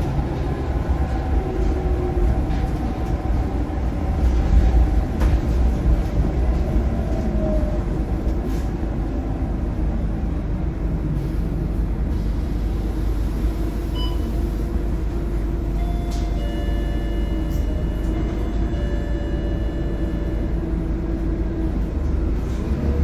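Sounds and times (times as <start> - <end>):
diesel bus engine rumbling: 0.0 - 23.0.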